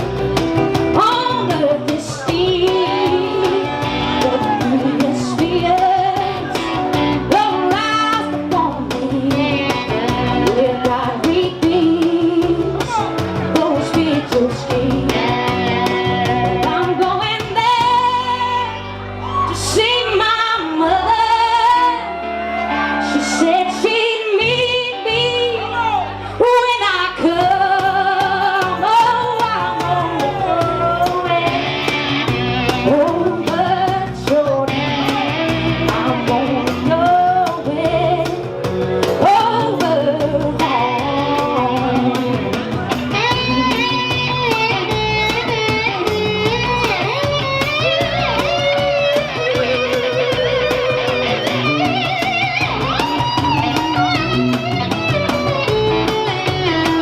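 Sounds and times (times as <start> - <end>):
drum beat: 0.0 - 18.2, 27.2 - 57.0
bass guitar: 0.0 - 57.0
electric guitar: 0.0 - 57.0
woman singing: 0.9 - 22.2, 22.8 - 51.3.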